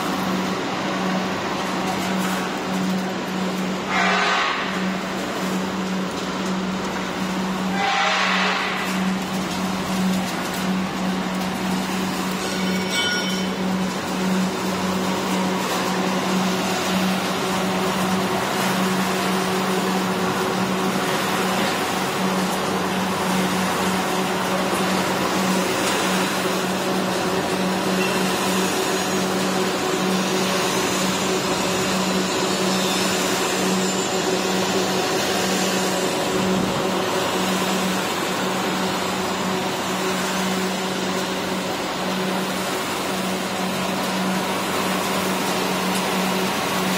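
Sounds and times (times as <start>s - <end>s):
machinery rushing noise: 0.0s - 46.9s.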